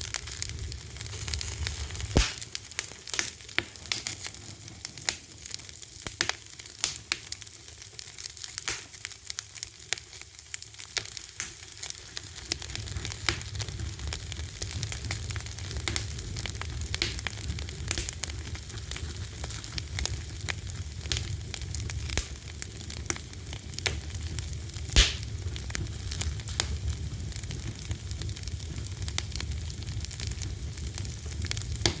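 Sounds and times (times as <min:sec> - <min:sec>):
low fire rumble: 0:00.0 - 0:32.0
wood fire crackling and popping: 0:00.0 - 0:32.0.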